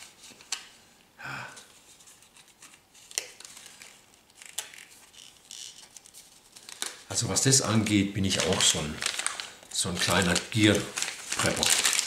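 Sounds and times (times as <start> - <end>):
packaging rustling: 1.7 - 12.0.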